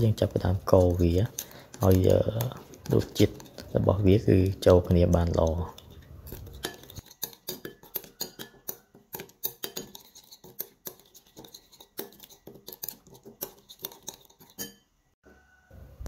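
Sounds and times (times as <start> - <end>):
metal spoon scraping ceramic bowl: 0.0 - 15.0.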